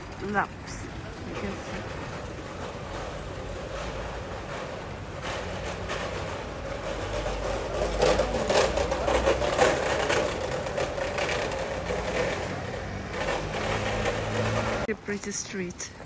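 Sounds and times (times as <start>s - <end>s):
low traffic hum: 0.0s - 16.0s
vehicle clattering past: 0.0s - 16.0s.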